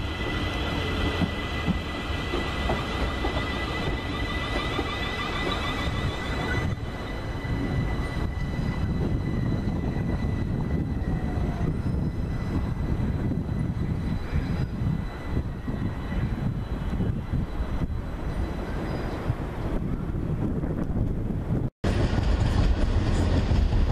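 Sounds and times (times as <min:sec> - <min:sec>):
train wheels rumbling on track: 0:00.0 - 0:23.9.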